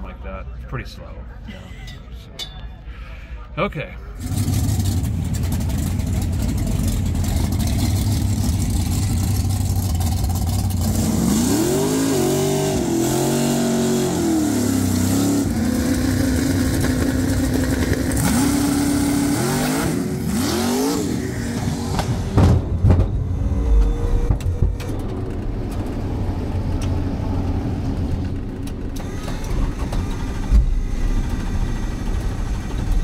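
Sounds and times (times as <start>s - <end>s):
truck engine revving: 4.0s - 33.0s.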